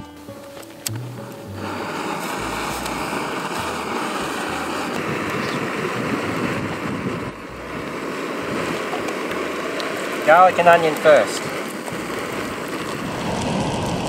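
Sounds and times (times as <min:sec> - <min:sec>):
garlic and onion sizzling in oil: 0:00.0 - 0:14.0.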